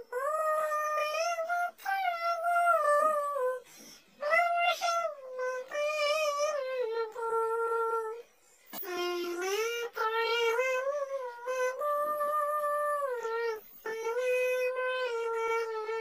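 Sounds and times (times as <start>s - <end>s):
high synthetic singing voice: 0.0s - 16.0s.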